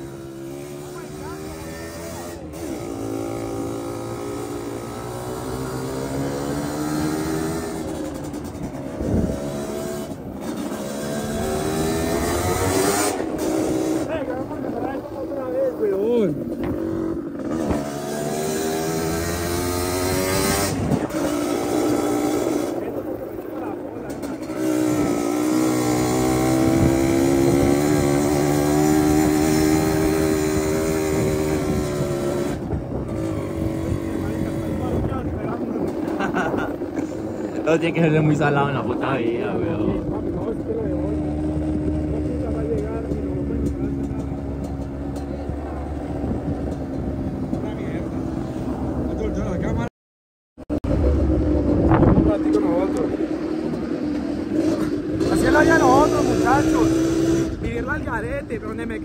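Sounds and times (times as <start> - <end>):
two-stroke motorcycle engine: 0.0 - 49.6, 50.7 - 59.0.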